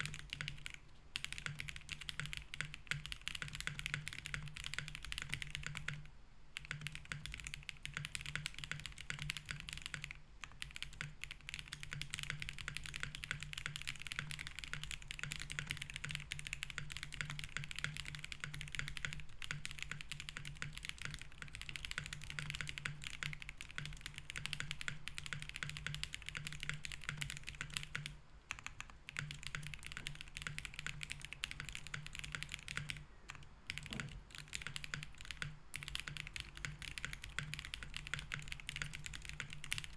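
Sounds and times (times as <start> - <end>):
faint low hum: 0.0 - 39.9
mechanical keyboard typing: 0.0 - 39.9.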